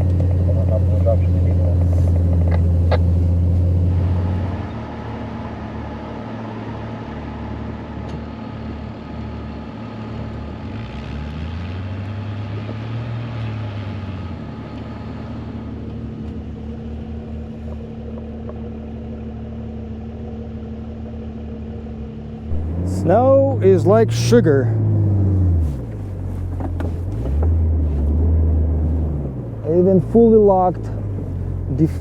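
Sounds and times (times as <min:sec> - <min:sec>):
car engine revving under load: 0:00.0 - 0:32.0.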